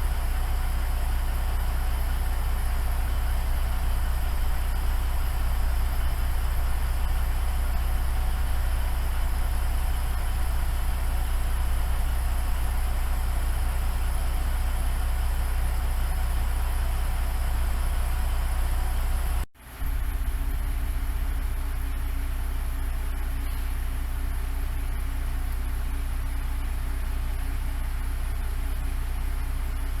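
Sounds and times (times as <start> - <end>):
diesel railcar engine humming: 0.0 - 30.0.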